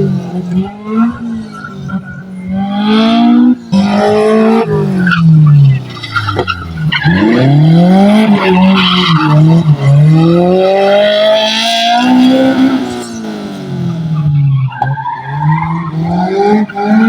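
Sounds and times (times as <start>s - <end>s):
car engine revving: 0.0s - 17.0s
tires squealing: 0.0s - 17.0s.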